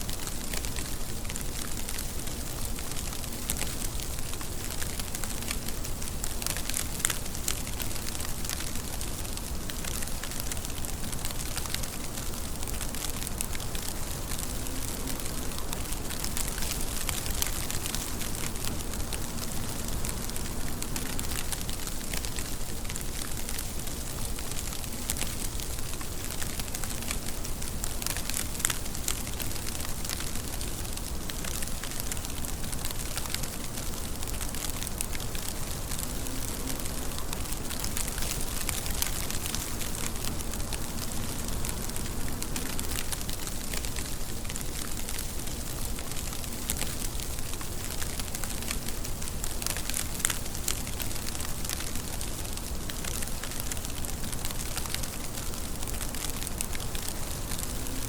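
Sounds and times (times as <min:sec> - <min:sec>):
rain drops pattering on surface: 0:00.0 - 0:58.0.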